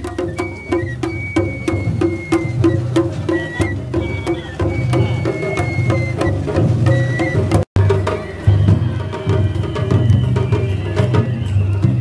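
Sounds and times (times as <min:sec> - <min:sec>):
high flute held notes: 0:00.0 - 0:12.0
taiko drums beating: 0:00.0 - 0:12.0.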